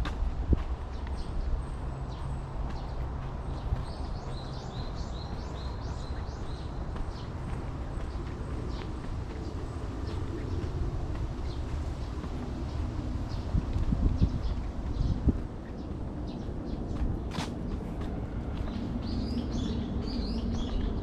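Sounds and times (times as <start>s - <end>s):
footsteps walking: 0.0s - 19.7s
low outdoor rumble: 0.0s - 21.0s.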